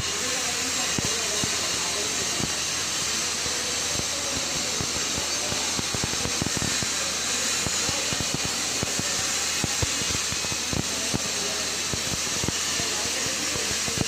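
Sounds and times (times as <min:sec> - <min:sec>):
arc welding sizzling hiss: 0:00.0 - 0:14.0
crackling pops from welding arc: 0:00.6 - 0:14.0.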